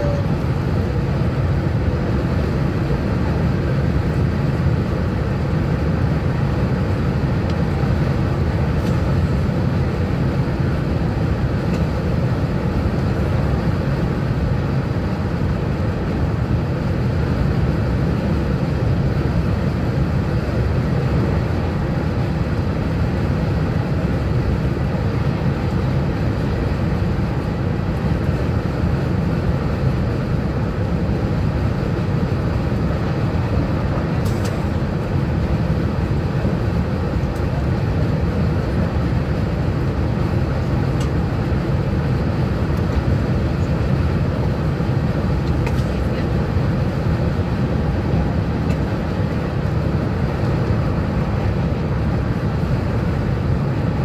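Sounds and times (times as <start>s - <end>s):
high-speed train interior rumble: 0.0s - 54.0s.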